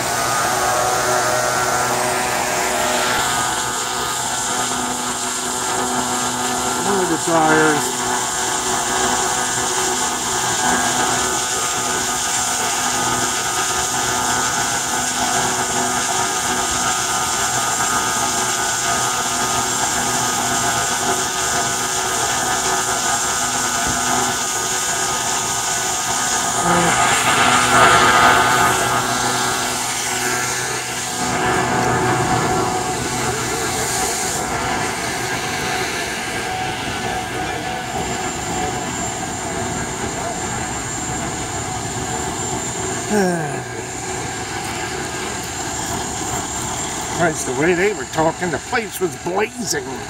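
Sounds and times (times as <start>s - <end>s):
engine droning whine: 0.0s - 50.0s.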